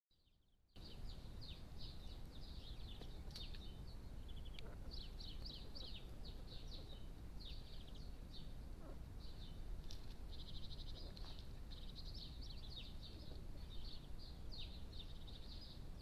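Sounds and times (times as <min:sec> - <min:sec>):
songbirds chirping: 0:00.1 - 0:16.0
microphone hiss: 0:00.8 - 0:16.0.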